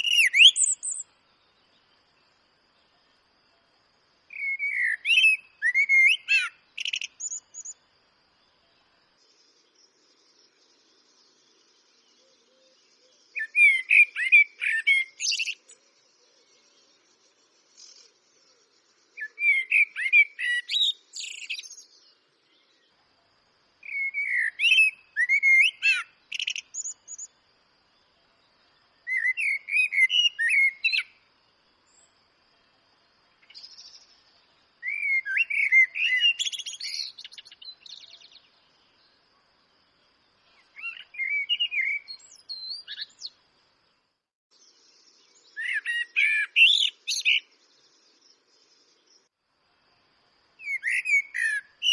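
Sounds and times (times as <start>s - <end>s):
blackbird singing: 0.0s - 2.9s, 4.3s - 7.8s, 8.4s - 23.0s, 23.8s - 27.4s, 28.0s - 31.2s, 33.4s - 39.2s, 40.4s - 43.4s, 44.5s - 49.3s, 50.6s - 51.9s.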